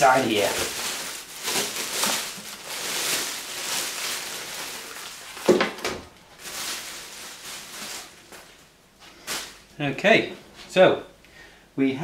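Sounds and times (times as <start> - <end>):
packaging rustling: 0.0 - 9.7.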